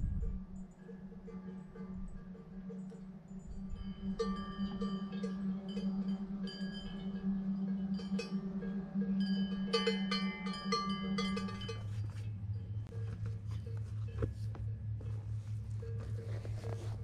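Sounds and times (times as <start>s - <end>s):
cowbells clanking: 0.0s - 17.0s
steady low hum: 0.0s - 17.0s.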